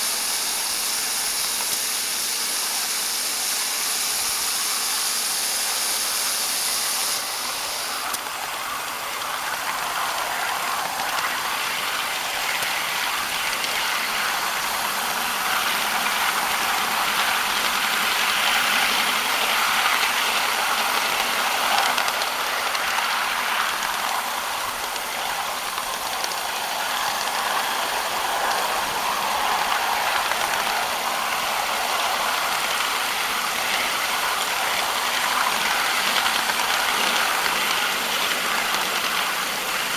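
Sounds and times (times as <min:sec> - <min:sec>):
high steam hiss: 0:00.0 - 0:39.9
miniature locomotive wheels clattering: 0:00.0 - 0:39.9.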